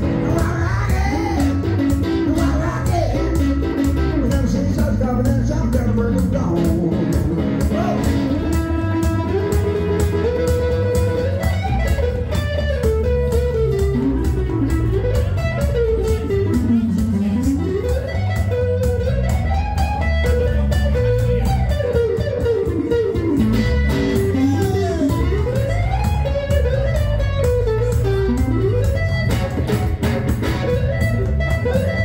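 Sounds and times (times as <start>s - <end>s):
electric guitar lead line: 0.0s - 32.0s
low rhythm guitar part: 0.0s - 32.0s.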